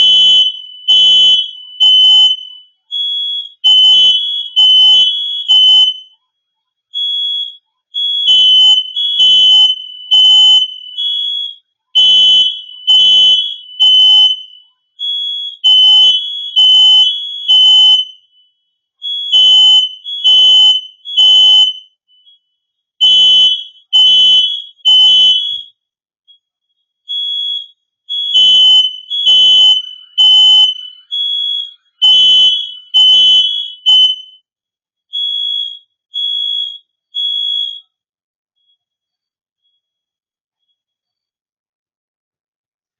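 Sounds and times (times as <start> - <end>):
smoke detector alarm beeps: 0.0 - 6.2, 7.0 - 25.7, 27.1 - 34.4, 35.2 - 37.9.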